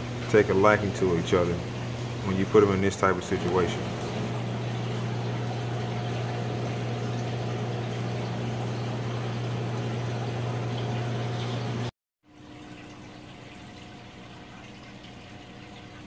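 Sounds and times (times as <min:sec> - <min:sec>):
aquarium water bubbling: 0:00.0 - 0:16.0
tank pump humming: 0:00.0 - 0:16.0.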